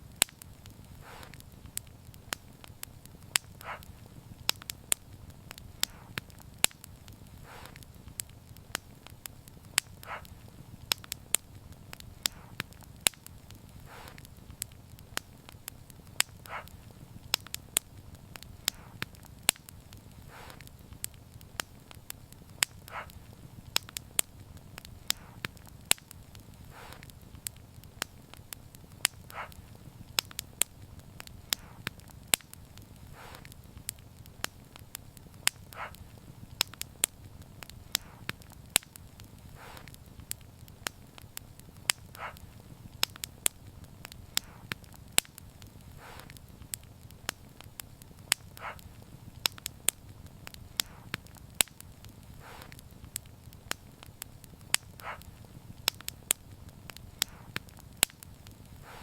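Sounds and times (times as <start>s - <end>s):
low rumble of flame: 0.0s - 59.0s
soft hiss: 0.0s - 59.0s
wood fire crackling: 0.0s - 59.0s.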